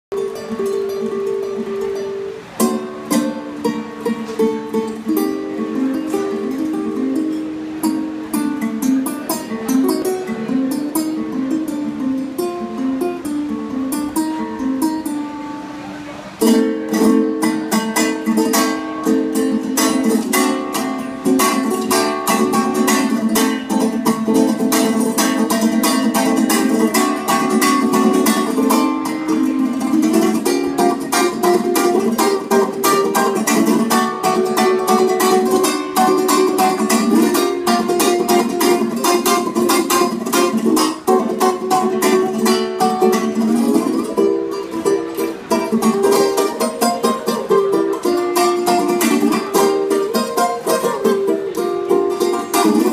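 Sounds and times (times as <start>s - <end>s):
ukulele strumming: 0.1s - 52.9s.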